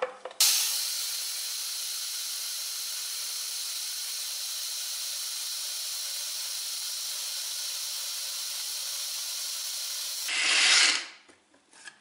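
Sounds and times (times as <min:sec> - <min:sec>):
blender whirring: 0:00.4 - 0:11.1.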